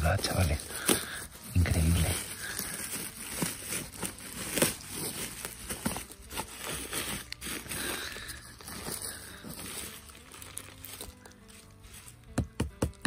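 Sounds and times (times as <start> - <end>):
hand rustling dry pine needles: 0.0 - 12.3.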